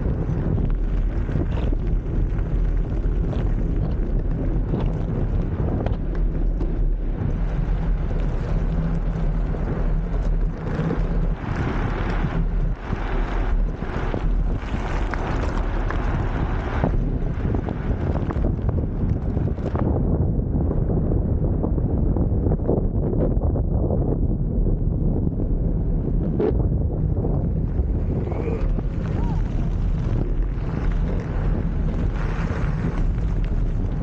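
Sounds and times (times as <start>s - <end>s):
wheels rolling on asphalt: 0.0s - 34.0s
wind buffeting microphone: 0.0s - 34.0s.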